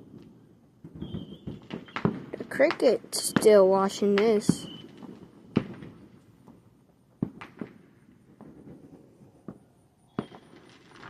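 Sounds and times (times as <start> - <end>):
distant firework bangs: 0.0 - 11.0.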